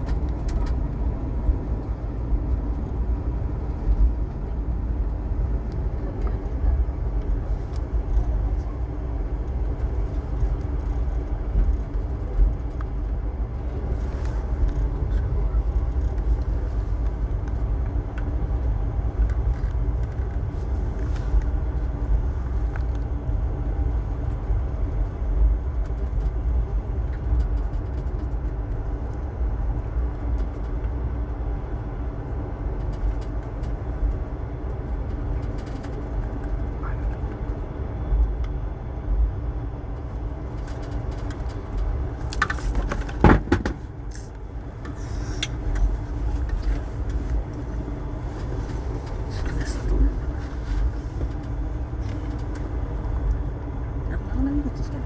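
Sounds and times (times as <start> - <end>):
train clatter: 0.0 - 37.6, 40.0 - 55.0
train carriage rumble: 0.0 - 55.0.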